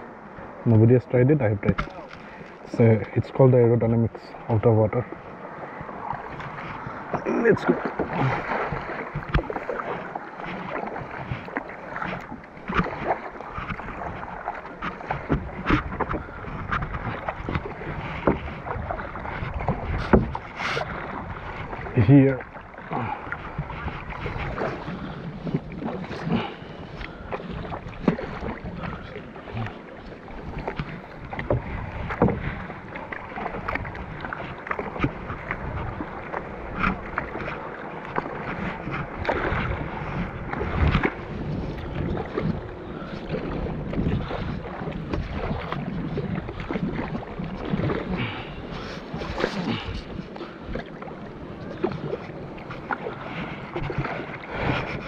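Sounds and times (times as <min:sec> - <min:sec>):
paddle splashing water: 0:00.0 - 0:55.0
water sloshing against hull: 0:00.0 - 0:55.0.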